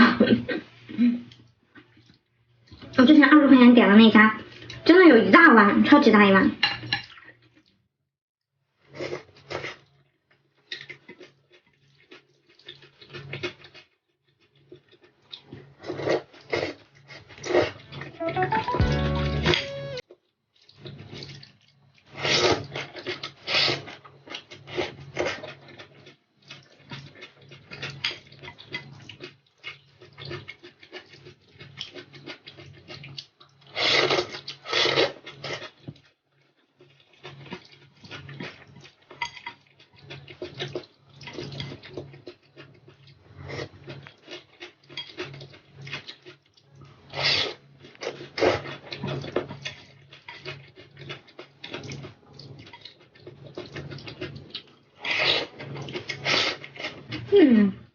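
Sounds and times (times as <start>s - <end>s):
chewing and slurping: 8.9s - 19.8s, 20.6s - 57.3s.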